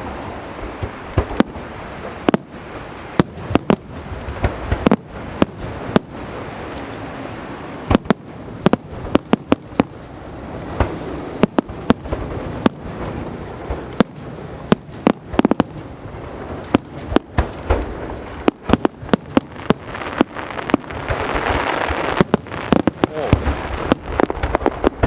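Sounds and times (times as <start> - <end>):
firework shells bursting: 0.0 - 7.2, 7.8 - 25.0
crackling rumble: 0.0 - 25.0.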